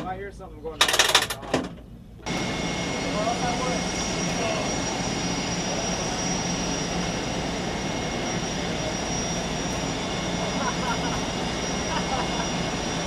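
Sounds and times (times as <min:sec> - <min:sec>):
turbine engine rumble and whine: 0:00.0 - 0:13.0.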